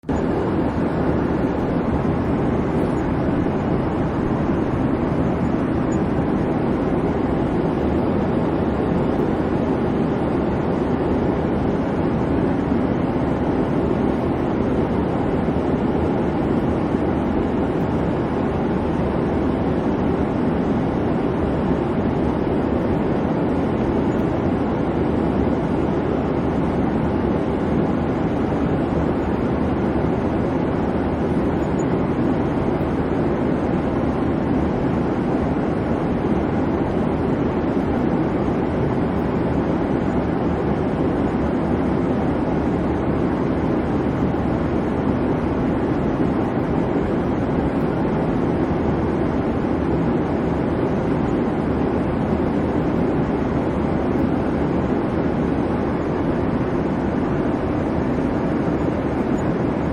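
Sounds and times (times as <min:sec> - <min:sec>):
airplane cabin engine hum: 0:00.0 - 0:59.9.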